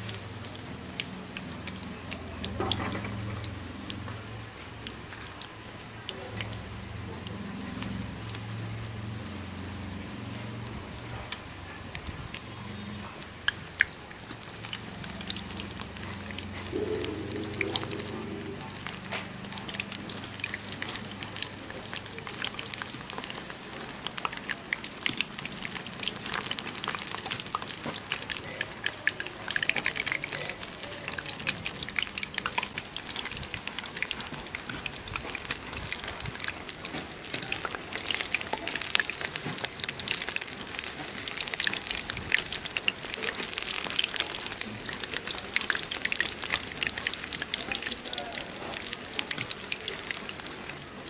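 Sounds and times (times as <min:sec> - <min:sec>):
batter frying in hot oil: 0:00.0 - 0:51.0
dense crackling sizzle: 0:00.0 - 0:51.0.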